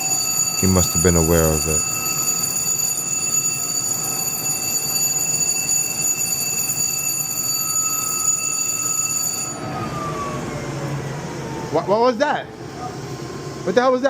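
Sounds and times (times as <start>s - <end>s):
steady electronic alarm tone: 0.0s - 12.1s.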